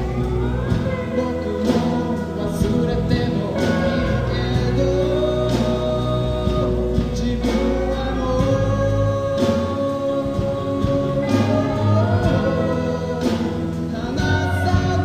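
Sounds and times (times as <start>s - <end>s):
band playing a song: 0.0s - 15.0s
person singing: 0.0s - 15.0s.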